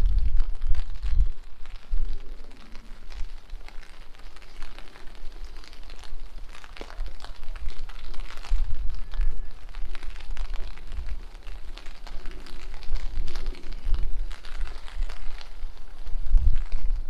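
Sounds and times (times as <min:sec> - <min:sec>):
rain falling: 0:00.0 - 0:17.0
wind buffeting microphone: 0:00.0 - 0:17.0.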